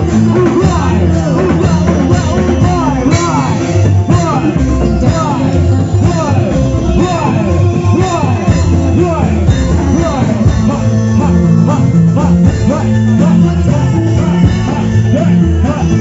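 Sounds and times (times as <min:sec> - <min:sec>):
busy drum rhythm: 0:00.0 - 0:16.0
low bass notes: 0:00.0 - 0:16.0.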